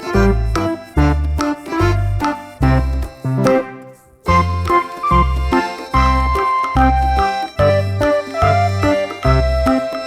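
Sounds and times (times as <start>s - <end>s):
bouncy keyboard tune: 0.0s - 10.0s
steady bass beat: 0.1s - 3.6s, 4.3s - 9.8s.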